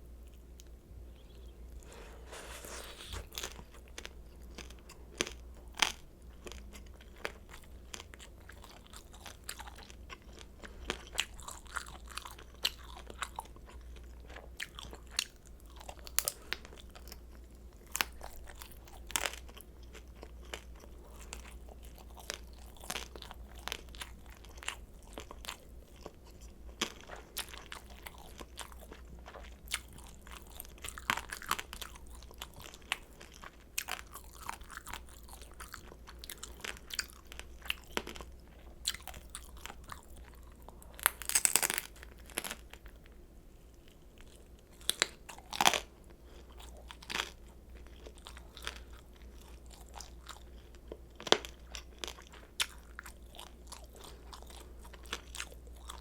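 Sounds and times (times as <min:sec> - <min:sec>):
chewing crispy fried dumplings: 0:00.0 - 0:56.0.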